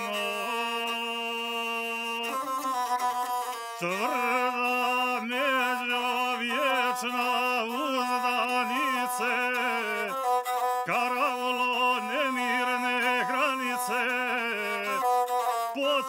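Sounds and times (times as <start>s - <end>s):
bowed string folk melody: 0.0s - 16.0s.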